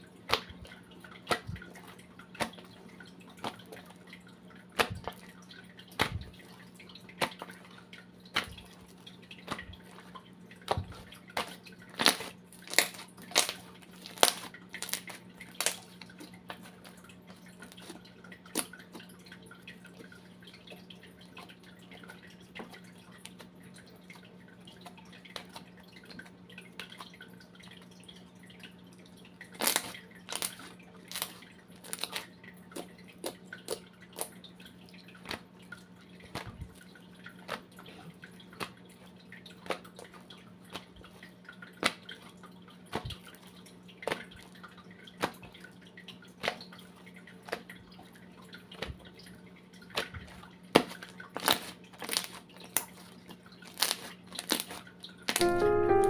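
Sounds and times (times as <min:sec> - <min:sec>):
wet clicks and drips of mud washing: 0:00.0 - 0:55.4.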